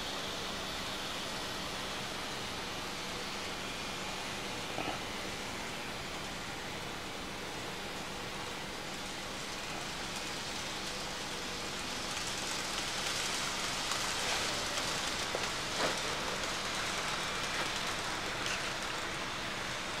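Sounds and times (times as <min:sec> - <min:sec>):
model train motor hiss: 0:00.0 - 0:20.0.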